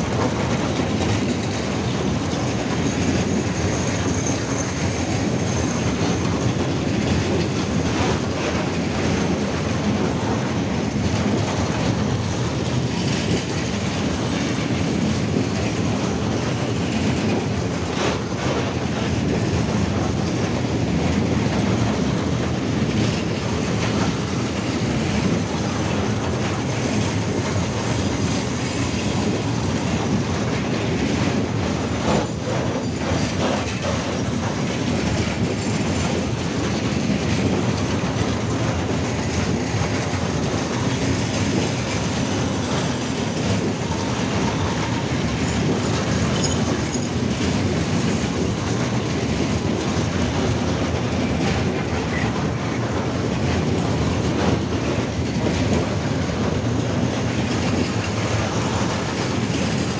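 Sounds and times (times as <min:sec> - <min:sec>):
freight wagons clattering: 0:00.0 - 0:50.0
steel wheels rumbling on rails: 0:00.0 - 0:59.9.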